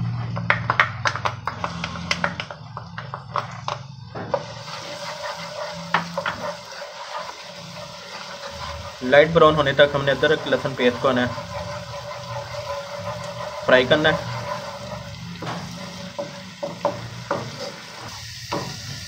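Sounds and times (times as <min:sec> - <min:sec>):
paste frying in hot oil: 0:01.1 - 0:19.0
wooden spoon stirring: 0:01.5 - 0:18.2.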